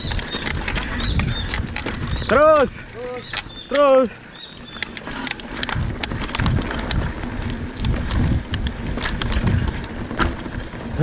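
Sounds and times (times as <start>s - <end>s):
bike chain and frame rattling: 0.0s - 11.0s
bike tyres rolling on dirt: 0.0s - 11.0s.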